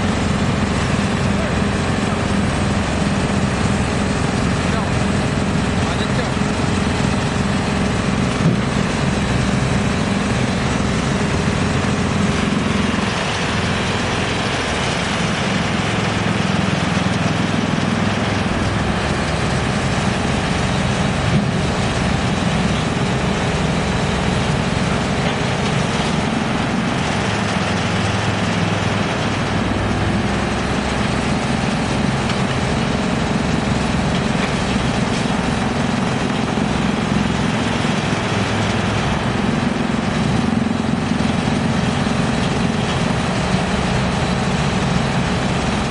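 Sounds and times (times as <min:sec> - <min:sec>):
wood chipper running: 0:00.0 - 0:45.9.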